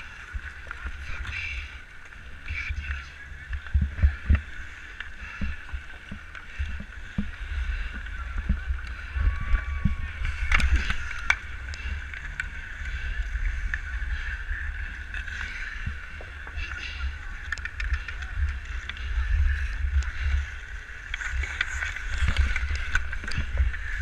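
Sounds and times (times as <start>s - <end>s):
low microphone rumble: 0.0s - 24.0s.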